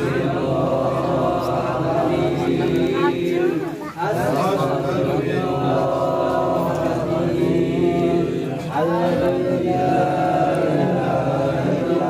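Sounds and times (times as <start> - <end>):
religious chanting: 0.0 - 12.0.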